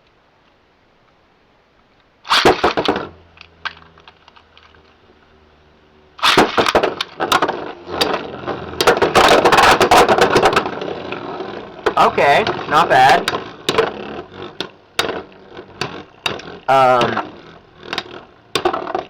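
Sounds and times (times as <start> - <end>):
spinning hum: 2.1 - 19.0
rapid clicking and clashing tops: 2.3 - 4.8, 6.2 - 19.0
spinning tops clattering: 2.3 - 5.0, 6.1 - 19.0.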